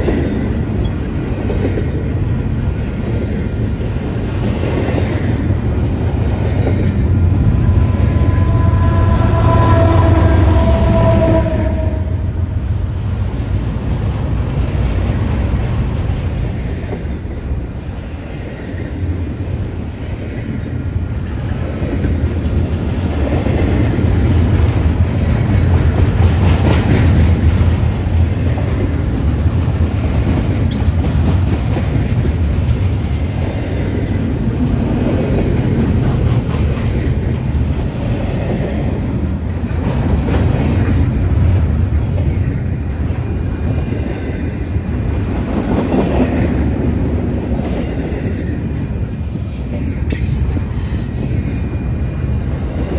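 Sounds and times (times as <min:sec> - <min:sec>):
freight train wheels rumbling: 0:00.0 - 0:52.9
wheels clacking on rail: 0:00.0 - 0:52.9.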